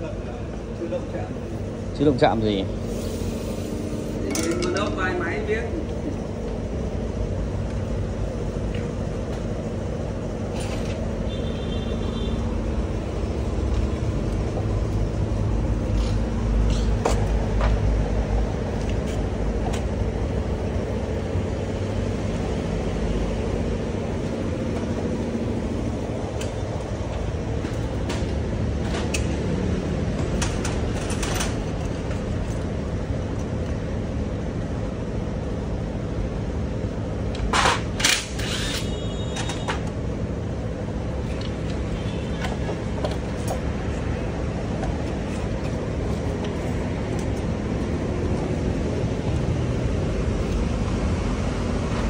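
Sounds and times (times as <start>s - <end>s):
steady low rumble: 0.0s - 11.4s, 12.0s - 37.5s, 39.8s - 52.0s.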